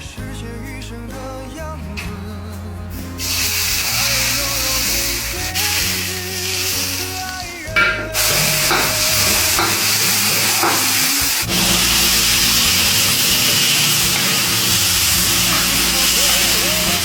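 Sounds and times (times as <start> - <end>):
food sizzling in a pot: 2.9 - 17.0.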